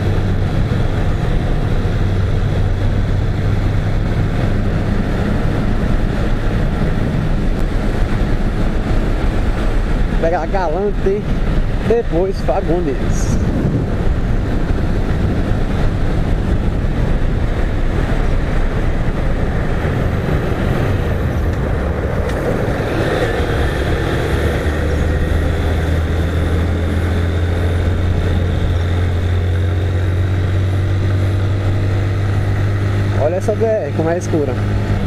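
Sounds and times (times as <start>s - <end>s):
motorcycle engine drone: 0.0s - 35.0s
rushing wind: 0.0s - 35.0s.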